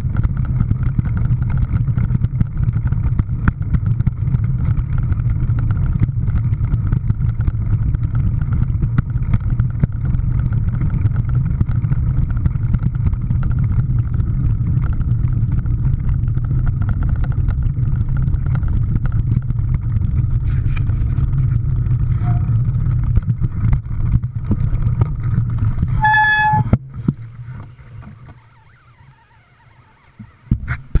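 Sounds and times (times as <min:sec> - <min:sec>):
vehicle driving rumble: 0:00.0 - 0:31.0.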